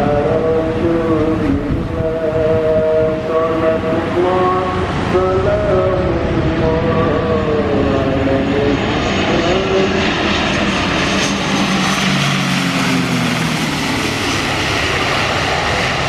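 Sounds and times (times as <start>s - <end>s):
turboprop aircraft drone: 0.0s - 16.0s
aircraft hiss: 2.8s - 16.0s.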